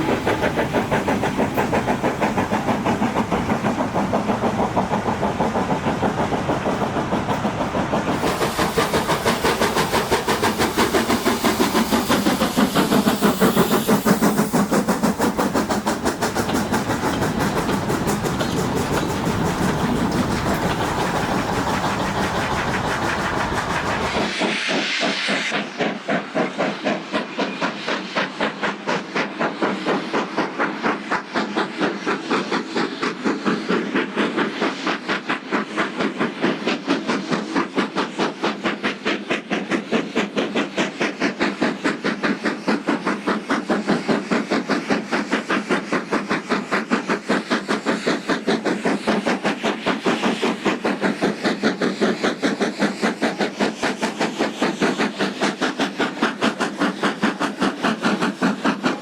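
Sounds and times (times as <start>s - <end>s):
hissing steam: 0.0s - 59.0s
steam locomotive exhaust beats: 0.0s - 59.0s.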